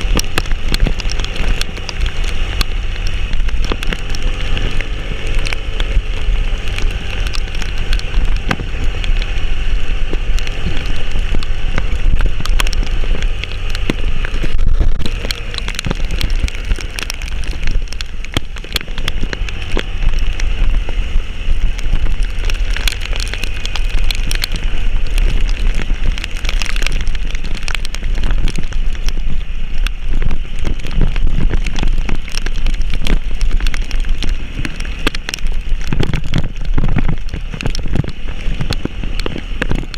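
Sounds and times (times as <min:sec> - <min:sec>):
low rain rumble: 0:00.0 - 0:39.9
raindrops pattering: 0:00.0 - 0:39.9.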